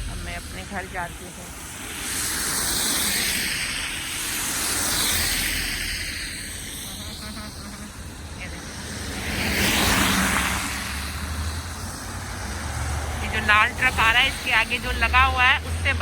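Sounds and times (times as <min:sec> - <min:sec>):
low engine rumble: 0:00.0 - 0:16.0
tyre hiss on slushy road: 0:00.0 - 0:16.0.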